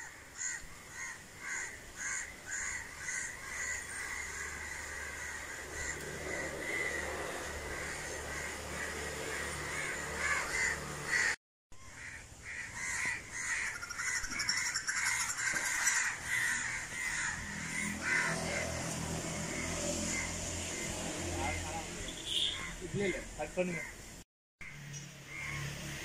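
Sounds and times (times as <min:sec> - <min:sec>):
crows cawing: 0:00.0 - 0:24.0, 0:24.6 - 0:25.8.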